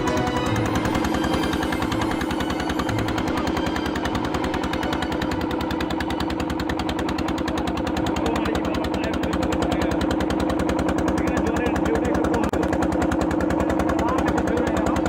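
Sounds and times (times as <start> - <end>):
motorboat engine chugging: 0.0 - 15.0.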